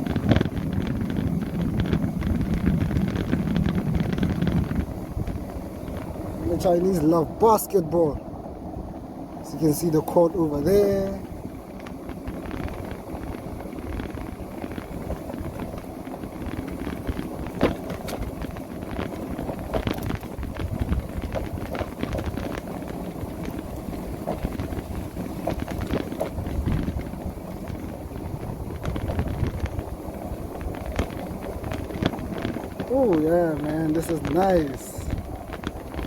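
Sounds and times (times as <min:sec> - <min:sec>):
electric motorbike rumble: 0:00.0 - 0:36.0
wind rushing over microphone: 0:00.0 - 0:36.0.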